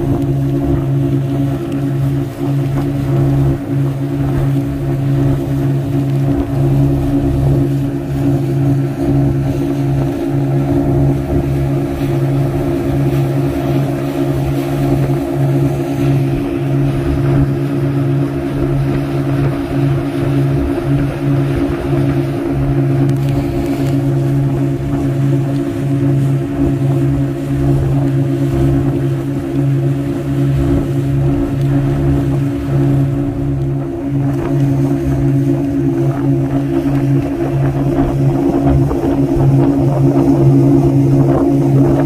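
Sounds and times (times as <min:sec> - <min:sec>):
motorboat engine running: 0:00.0 - 0:42.0
water rushing past hull: 0:00.0 - 0:42.0.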